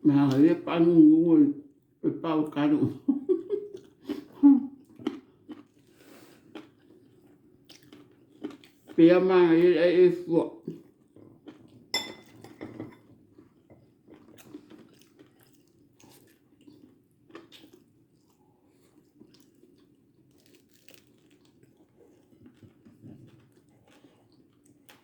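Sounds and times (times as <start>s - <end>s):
chewing and crunching food: 3.4s - 25.0s.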